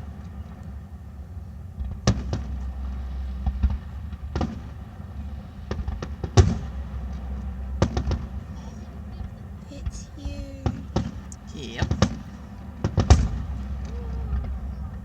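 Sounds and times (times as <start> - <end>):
fireworks bangs: 1.8 - 15.0.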